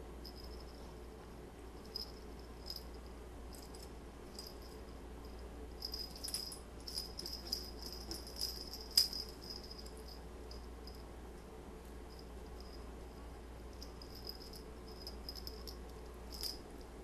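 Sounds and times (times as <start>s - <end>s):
small bell jingling: 0.2s - 0.9s, 1.8s - 11.1s, 12.1s - 12.9s, 13.7s - 17.0s.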